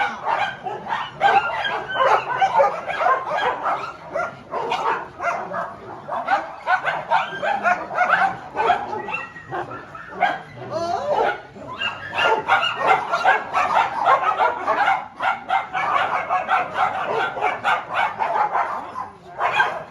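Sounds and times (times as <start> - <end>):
dogs barking and yipping: 0.0 - 19.9.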